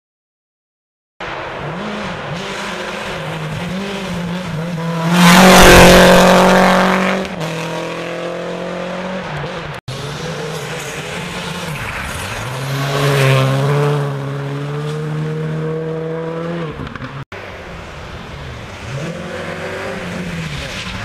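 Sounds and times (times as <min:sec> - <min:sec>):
gravel and tyre noise: 0:01.2 - 0:21.0
rally car engine passing: 0:01.2 - 0:21.0.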